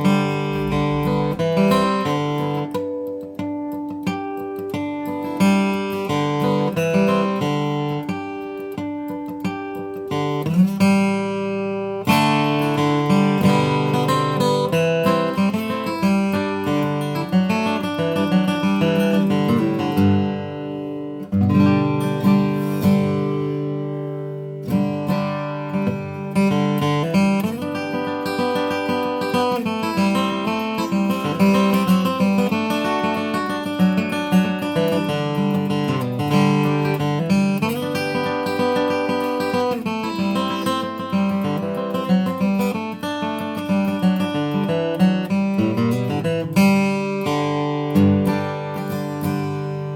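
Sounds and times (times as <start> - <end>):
acoustic guitar picking and strumming: 0.0 - 49.9.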